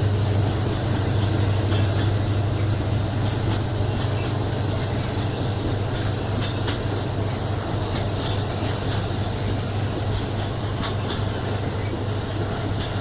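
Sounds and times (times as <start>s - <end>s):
freight train rumbling: 0.0s - 13.0s
train wheels clicking over rail: 0.0s - 13.0s.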